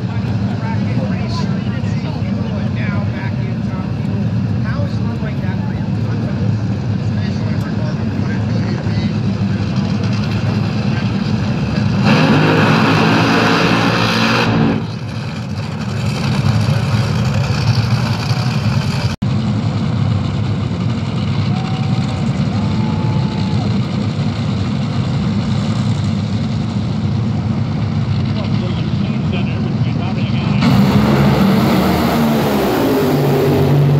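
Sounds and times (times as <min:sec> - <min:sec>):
dragster engines rumbling: 0:00.0 - 0:33.9
engine throttle blast: 0:00.0 - 0:33.9.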